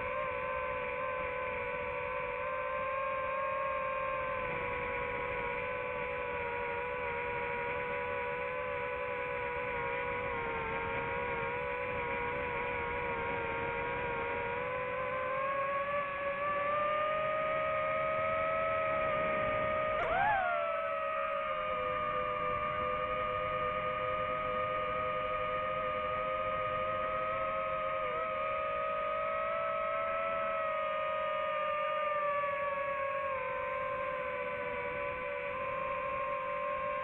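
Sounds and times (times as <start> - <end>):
drone propellers humming: 0.0 - 37.0.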